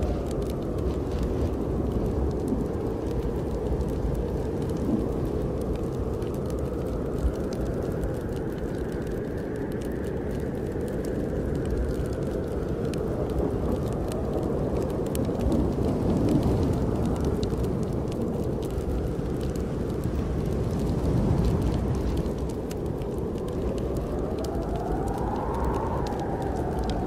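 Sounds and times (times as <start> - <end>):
snowstorm wind rushing: 0.0 - 8.4, 11.1 - 27.0
wood fire crackling: 0.0 - 27.0.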